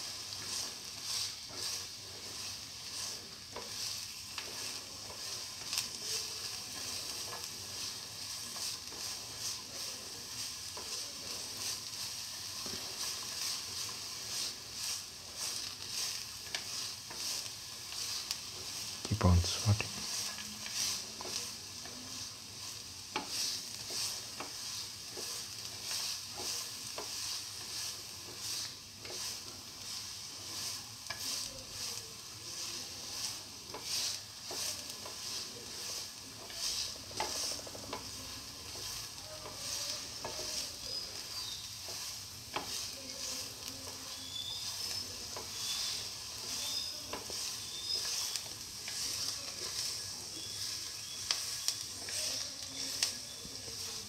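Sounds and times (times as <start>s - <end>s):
spatula scraping and tapping pan: 0.0s - 19.0s, 19.9s - 54.0s
onions sizzling in oil: 0.0s - 54.0s.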